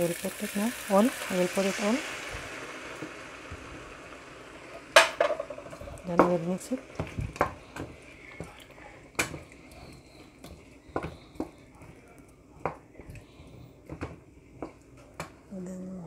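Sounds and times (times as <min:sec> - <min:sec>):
wooden spoon stirring in pan: 0:00.0 - 0:15.5.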